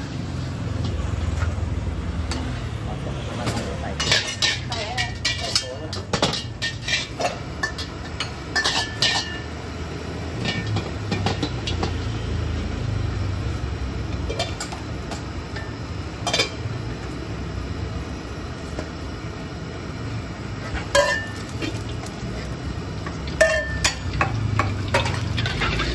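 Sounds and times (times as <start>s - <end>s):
gas burner rumble: 0.0s - 25.9s
ladle clinking and scraping wok: 0.1s - 12.8s, 14.0s - 17.2s, 20.6s - 25.9s.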